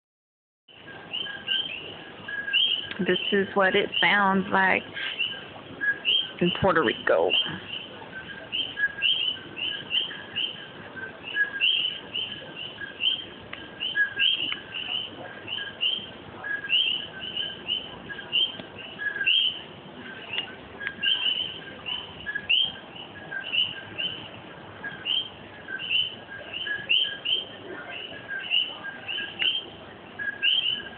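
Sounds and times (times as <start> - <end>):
frogs calling: 0.8 - 30.9.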